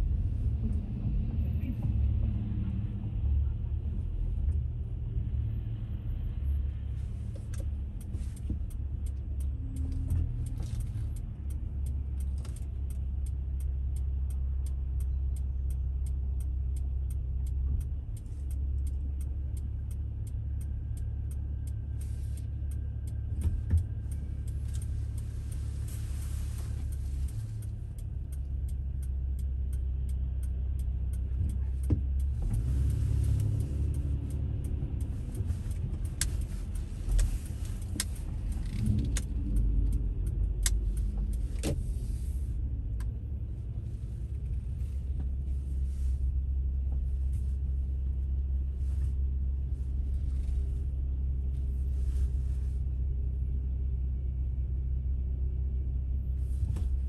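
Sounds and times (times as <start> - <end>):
car engine idling: 5.9 - 57.0.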